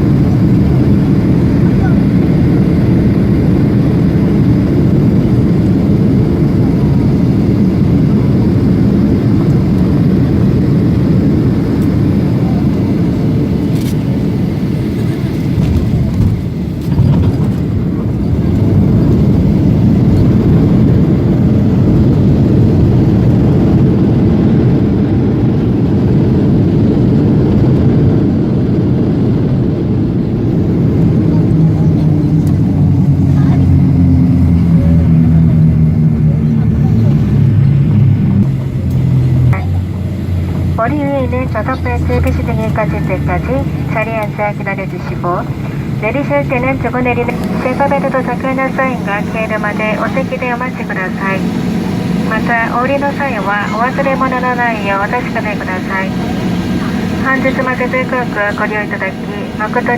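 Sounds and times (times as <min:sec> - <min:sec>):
airplane engine rumble in cabin: 0:00.0 - 0:59.9.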